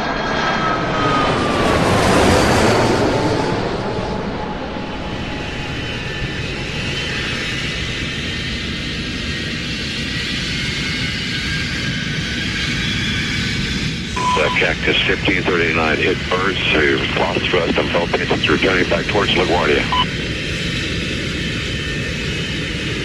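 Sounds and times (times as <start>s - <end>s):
jet airliner passing: 0.0s - 23.0s.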